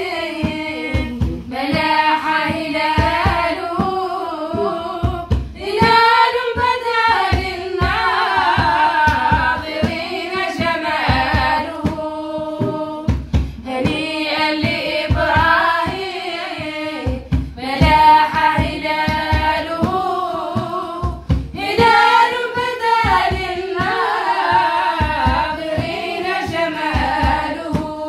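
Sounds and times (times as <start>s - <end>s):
low beat: 0.0s - 28.0s
women singing in unison: 0.0s - 28.0s.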